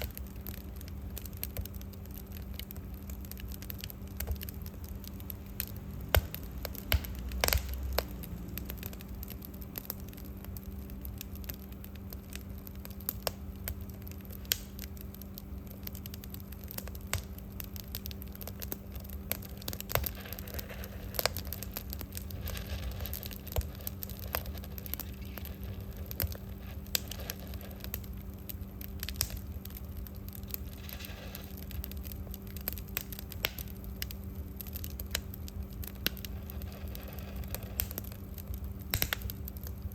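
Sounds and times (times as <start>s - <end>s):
steady low hum: 0.0s - 39.9s
wood fire crackling and popping: 0.0s - 39.9s.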